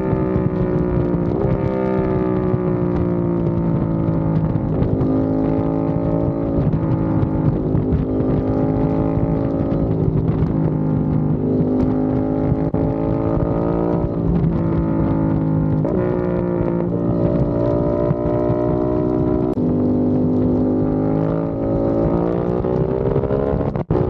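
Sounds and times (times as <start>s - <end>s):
motorcycle engine deep exhaust note: 0.0s - 24.0s.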